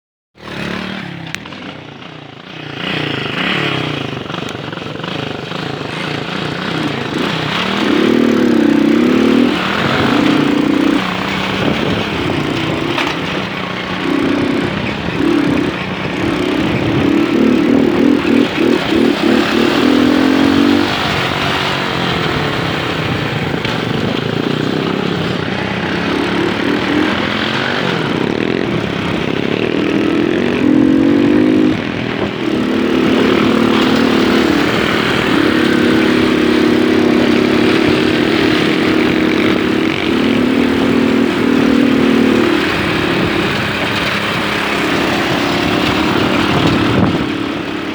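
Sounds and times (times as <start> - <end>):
moped engine running: 0.4 - 47.9.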